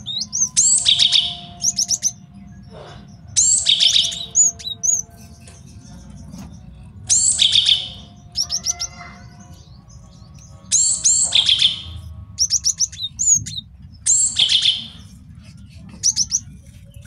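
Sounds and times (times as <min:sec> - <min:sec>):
bird singing high notes and trills: 0:00.0 - 0:17.0.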